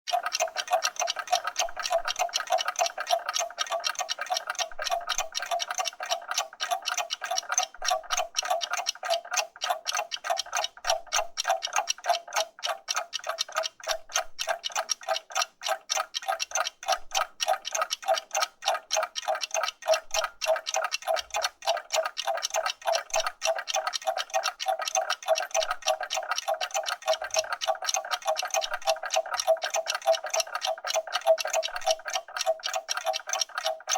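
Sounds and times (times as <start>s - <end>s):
mechanical clocks ticking: 0.1s - 33.9s.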